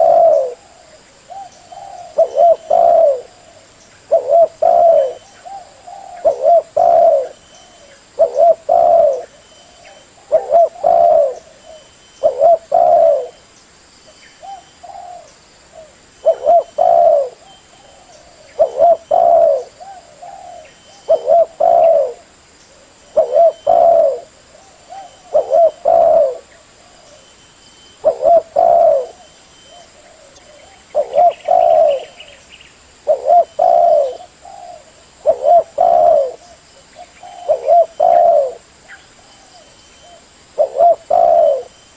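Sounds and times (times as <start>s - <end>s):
dove cooing: 0.0s - 13.4s, 14.4s - 27.3s, 27.9s - 32.4s, 33.0s - 41.8s.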